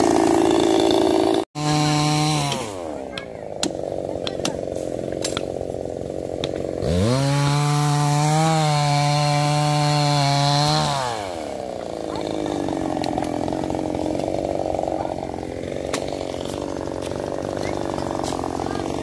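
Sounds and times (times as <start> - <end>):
chainsaw engine revving and idling: 0.0 - 19.0.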